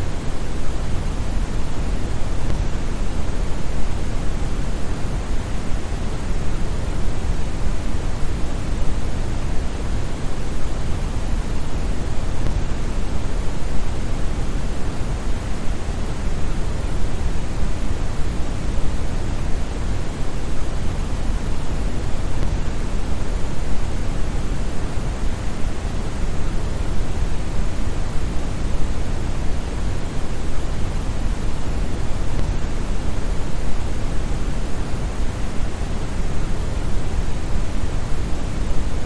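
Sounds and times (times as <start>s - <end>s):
brown noise: 0.0s - 39.0s.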